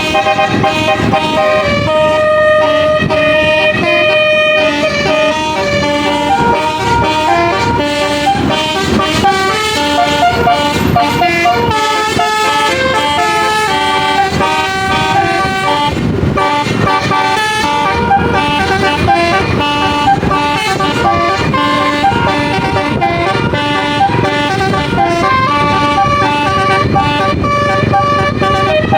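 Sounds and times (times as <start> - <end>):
bus horn playing a melody: 0.0 - 28.9.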